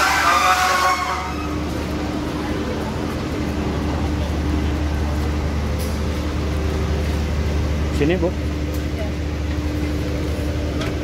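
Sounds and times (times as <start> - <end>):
diesel train humming: 0.0 - 11.0.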